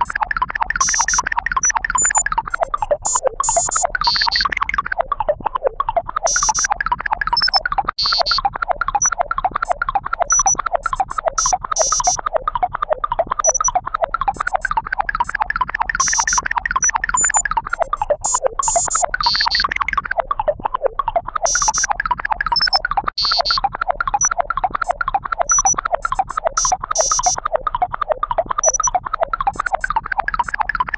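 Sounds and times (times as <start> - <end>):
electronic synth blips: 0.0 - 5.4, 6.2 - 12.3, 13.4 - 20.6, 21.4 - 27.8, 28.4 - 30.9.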